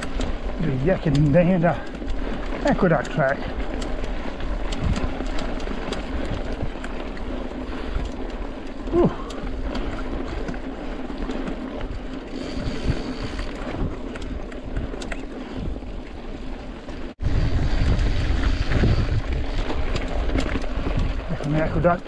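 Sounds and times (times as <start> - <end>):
bike clicks and rattles: 0.0 - 22.0
bike tyres rumbling over dirt: 0.0 - 22.0
wind on microphone: 3.4 - 16.4, 17.1 - 22.0.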